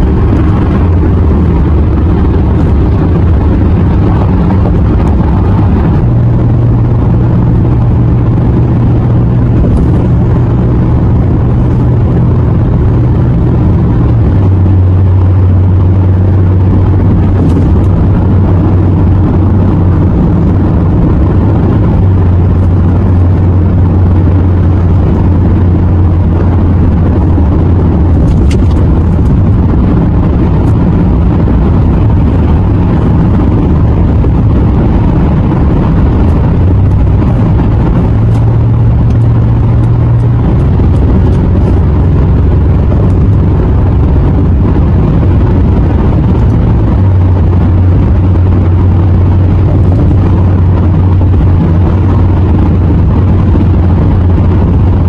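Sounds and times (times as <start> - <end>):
car road and engine noise: 0.0 - 55.0
low hum: 0.0 - 55.0.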